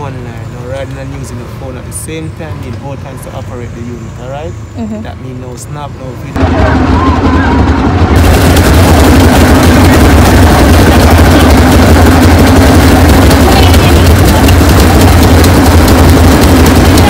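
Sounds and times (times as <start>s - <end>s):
quad bike engines rumbling: 0.0s - 17.0s.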